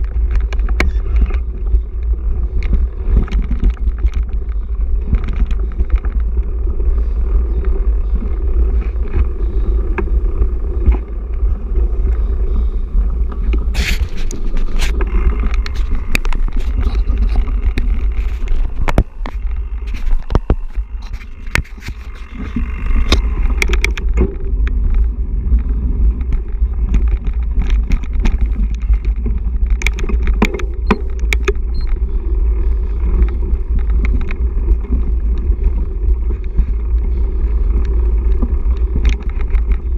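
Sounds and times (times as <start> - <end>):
bike rattling over bumps: 0.0 - 39.9
bike tyre noise on dirt: 0.0 - 39.9
wind buffeting microphone: 0.0 - 39.9.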